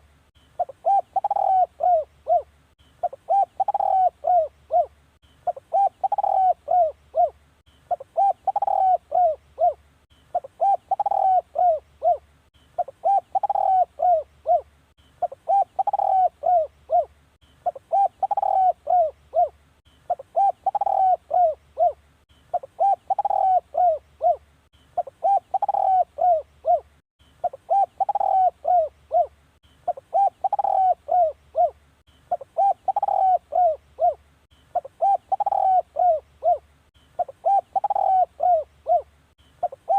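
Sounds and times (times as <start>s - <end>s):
dove cooing: 0.5s - 39.9s.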